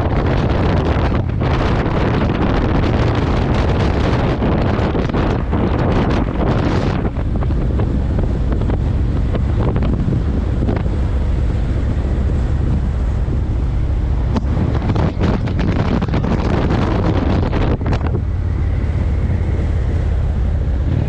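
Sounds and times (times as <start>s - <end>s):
motorcycle road and engine noise: 0.0s - 21.0s
wind buffeting microphone: 0.0s - 21.0s.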